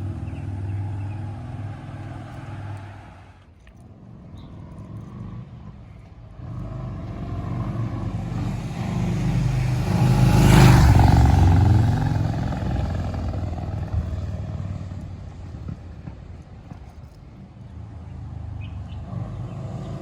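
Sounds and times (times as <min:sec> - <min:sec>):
motorcycle passing by: 0:00.0 - 0:20.0.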